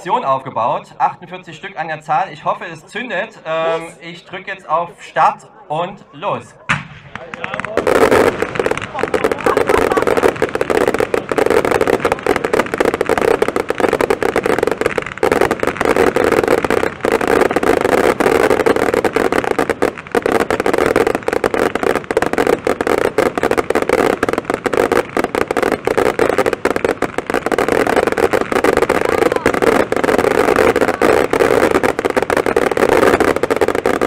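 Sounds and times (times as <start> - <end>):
firework barrage: 0.0 - 34.0.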